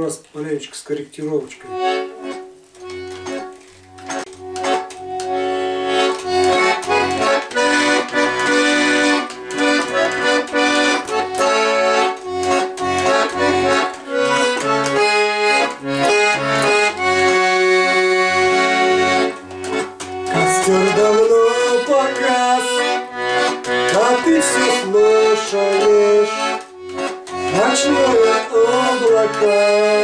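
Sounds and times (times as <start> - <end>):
accordion playing: 1.2 - 30.0.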